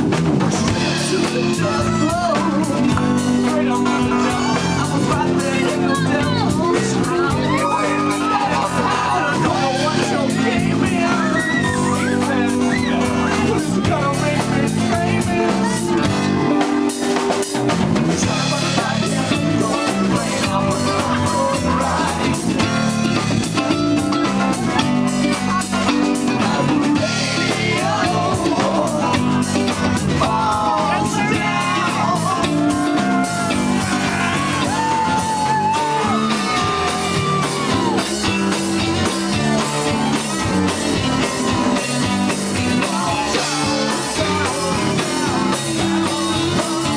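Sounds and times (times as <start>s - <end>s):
drum kit beat: 0.0s - 46.9s
electric guitar: 0.0s - 46.9s
person singing: 0.5s - 17.4s, 18.0s - 46.9s.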